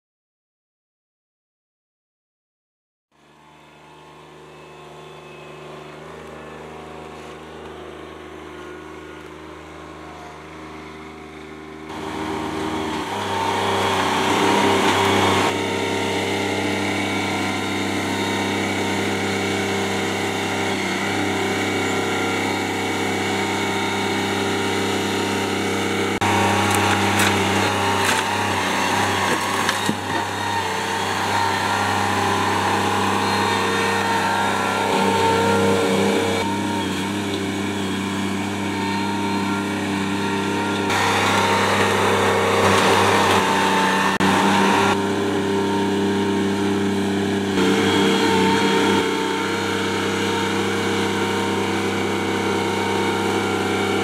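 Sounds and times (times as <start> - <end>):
tractor diesel engine running: 3.2 - 54.0.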